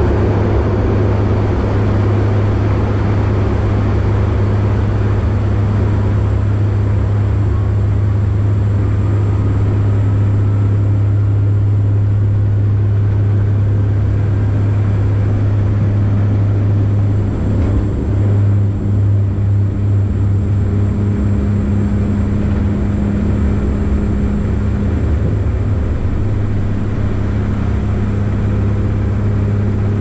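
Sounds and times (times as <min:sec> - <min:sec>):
loud low propeller drone: 0:00.0 - 0:30.0.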